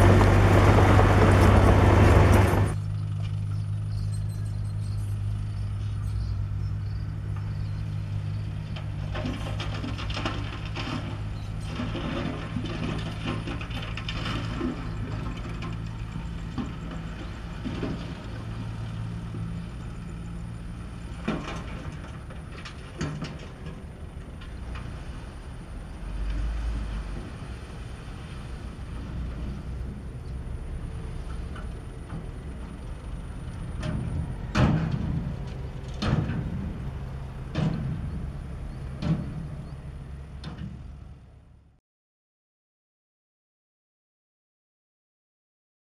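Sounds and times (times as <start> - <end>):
diesel engines running: 0.0 - 41.8.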